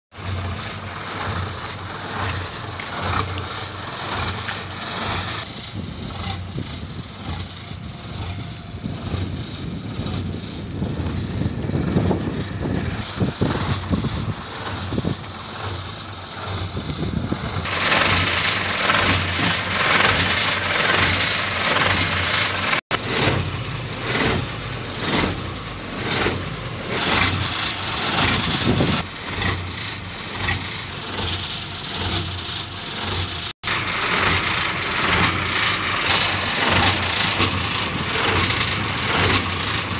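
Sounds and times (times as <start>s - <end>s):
diesel truck engine idling: 0.1s - 39.9s.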